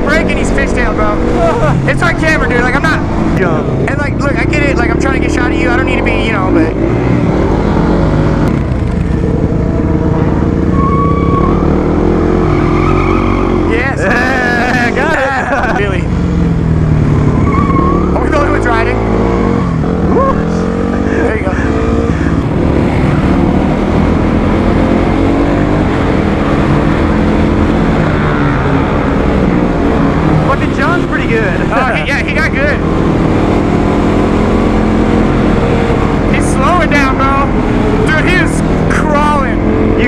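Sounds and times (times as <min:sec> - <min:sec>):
motorcycle engine running: 0:00.0 - 0:12.4, 0:13.8 - 0:40.0.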